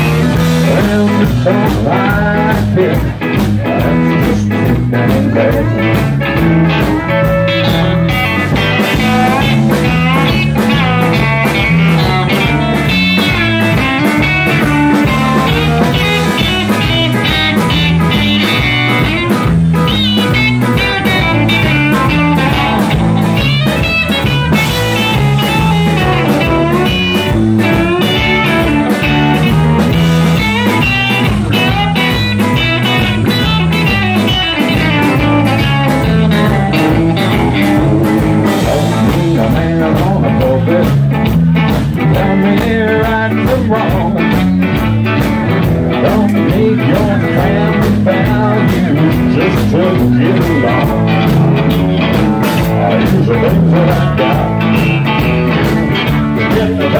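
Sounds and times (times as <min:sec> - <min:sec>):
bending electric guitar line: 0:00.0 - 0:56.9
blues rock band playing: 0:00.0 - 0:56.9.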